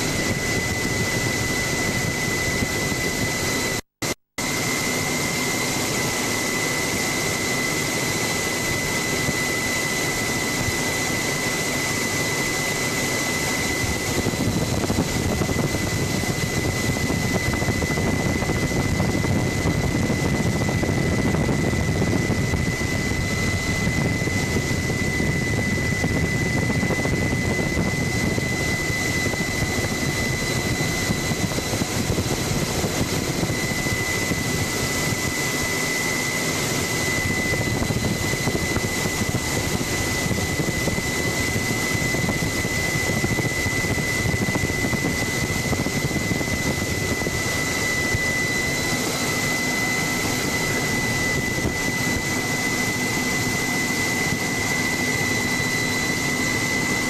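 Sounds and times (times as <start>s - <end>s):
helicopter engine and rotor noise: 0.0s - 57.0s
high whine: 0.0s - 57.0s.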